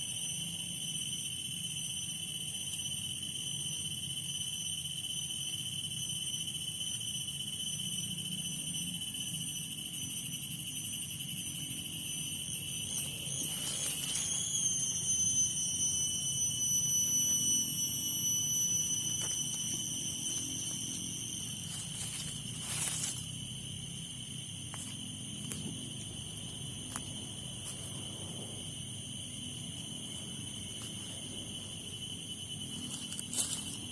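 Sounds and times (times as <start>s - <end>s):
cicada song: 0.0s - 33.9s.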